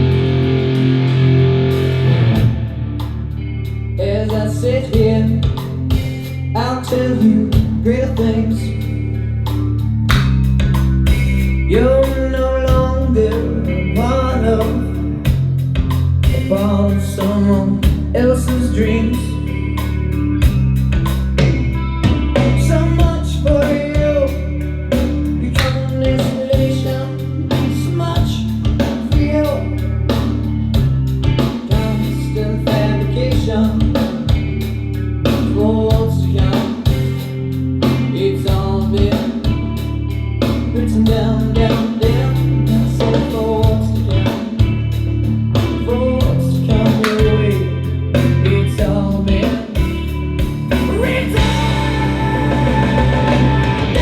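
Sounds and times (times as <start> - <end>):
rock song over loudspeakers: 0.0 - 54.0.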